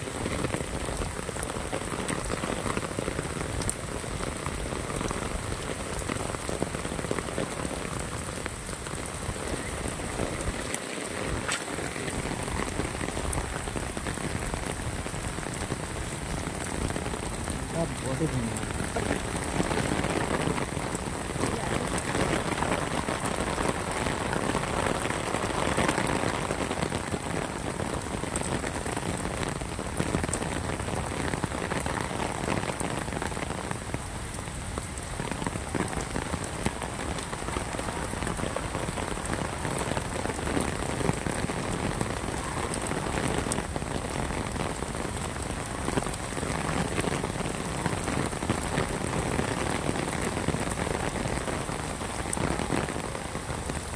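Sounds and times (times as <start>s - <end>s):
heavy rain on stone paving: 0.0s - 53.9s.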